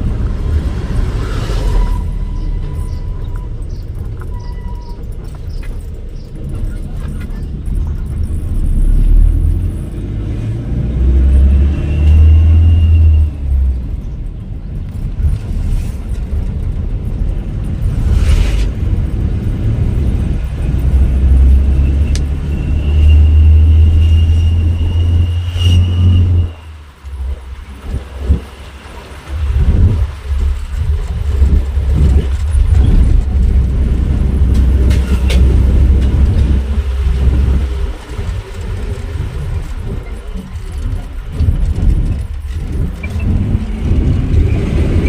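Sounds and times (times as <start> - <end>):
vehicle engine and road rumble: 0.0 - 45.0.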